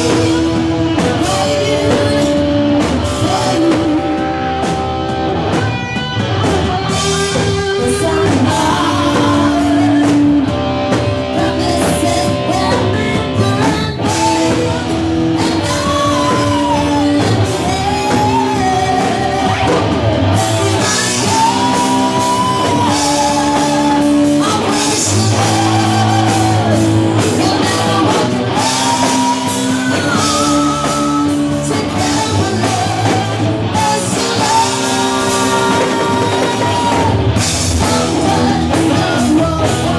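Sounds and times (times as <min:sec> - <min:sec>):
woman singing: 0:00.0 - 0:04.8, 0:06.4 - 0:39.9
electric guitar: 0:00.0 - 0:39.9.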